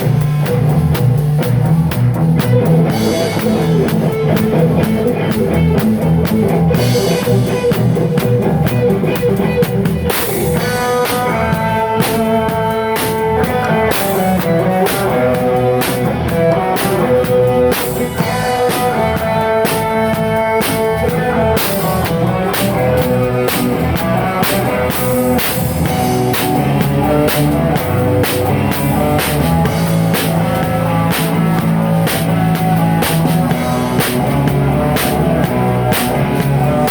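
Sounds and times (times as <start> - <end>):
drum kit beat: 0.0 - 36.9
sustained guitar notes: 0.0 - 36.9.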